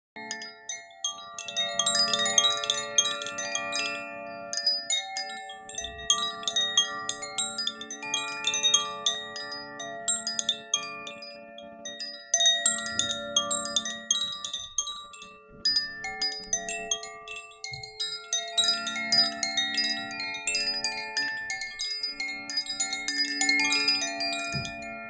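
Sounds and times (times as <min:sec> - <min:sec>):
chiming bell tones: 0:00.2 - 0:25.0.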